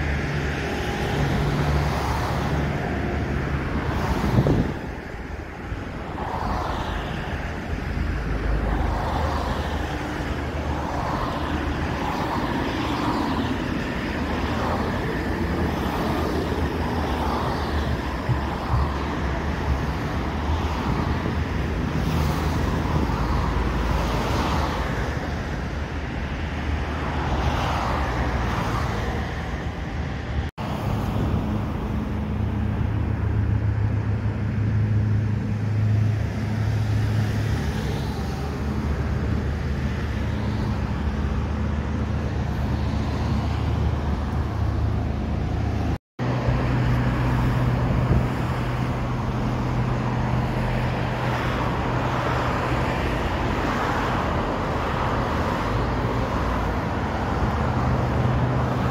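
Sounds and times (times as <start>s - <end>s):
road traffic noise: 0.0s - 58.9s.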